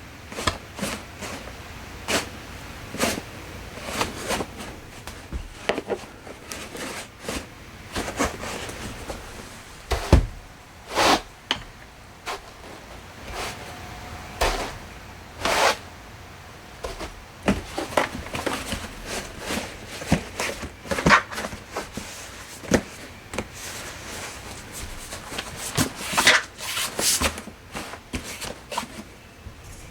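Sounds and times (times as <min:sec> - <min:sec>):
laundry basket knocks and creaks: 0:03.0 - 0:13.8, 0:14.4 - 0:14.9, 0:16.8 - 0:29.9.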